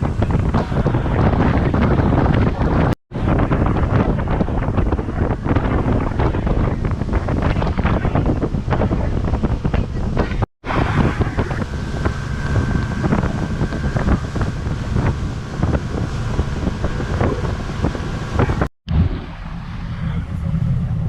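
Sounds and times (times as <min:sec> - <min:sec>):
boat engine running: 0:00.0 - 0:21.0
wind buffeting microphone: 0:00.0 - 0:21.0.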